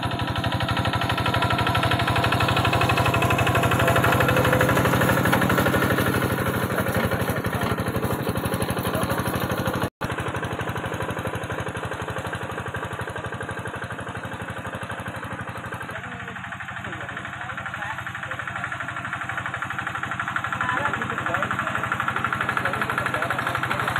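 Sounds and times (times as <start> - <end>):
farm machine engine chugging: 0.0 - 23.9.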